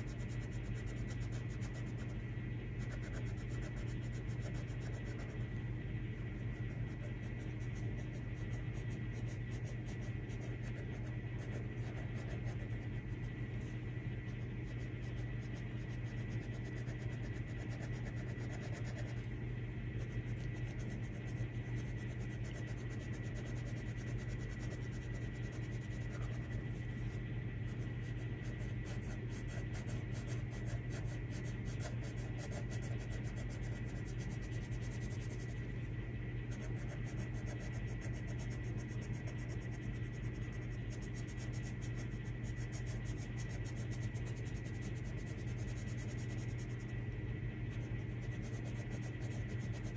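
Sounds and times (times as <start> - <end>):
pencil scratching on paper: 0.0 - 2.2, 2.8 - 5.5, 6.2 - 13.6, 14.3 - 19.3, 20.0 - 35.6, 36.5 - 46.9, 47.7 - 49.9
steady low hum: 0.0 - 49.9.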